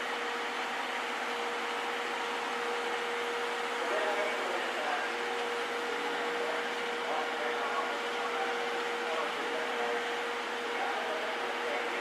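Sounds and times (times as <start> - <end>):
constant hum tone: 0.0 - 12.0.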